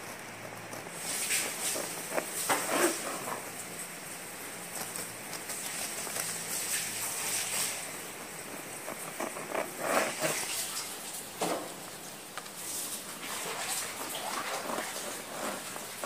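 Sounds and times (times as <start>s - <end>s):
knife sawing through bread crust: 0.0s - 3.6s, 4.6s - 10.9s, 12.9s - 16.0s.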